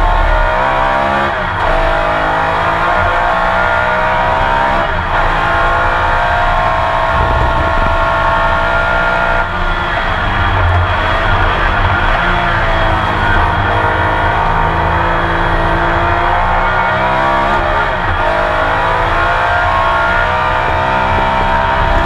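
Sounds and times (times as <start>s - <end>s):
race car engine accelerating: 0.0s - 22.0s
gear upshifts: 1.5s - 22.0s.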